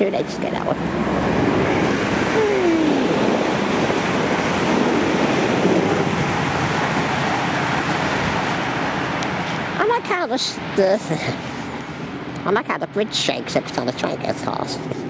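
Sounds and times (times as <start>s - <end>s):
train passing with rush of air: 0.0s - 15.0s.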